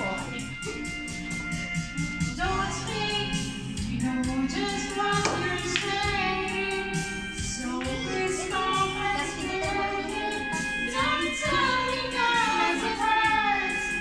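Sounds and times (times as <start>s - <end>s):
karaoke backing track: 0.0s - 14.0s
person singing: 2.4s - 14.0s.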